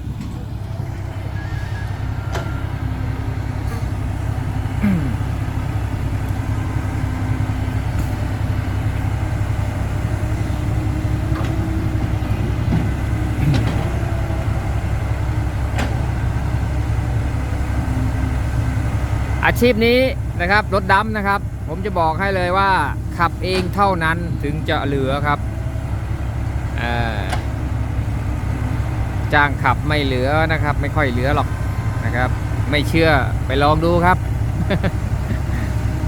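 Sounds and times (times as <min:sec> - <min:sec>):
road noise: 0:00.0 - 0:36.0
vehicle engine rumble: 0:00.0 - 0:36.0.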